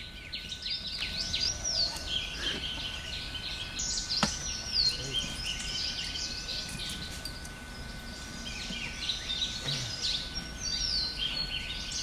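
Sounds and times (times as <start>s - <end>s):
low background noise: 0.0s - 12.0s
wild birds chirping and calling: 0.0s - 12.0s.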